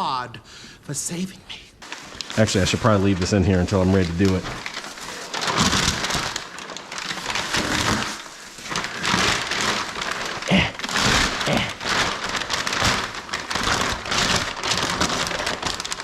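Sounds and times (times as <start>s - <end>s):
plastic packaging crinkling: 1.8s - 16.0s.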